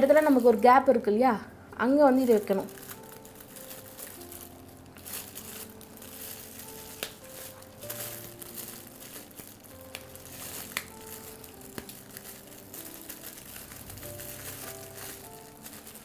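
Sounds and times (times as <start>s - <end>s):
plastic packet crinkling: 0.0s - 1.1s, 1.9s - 16.0s
soft background music: 0.0s - 16.0s.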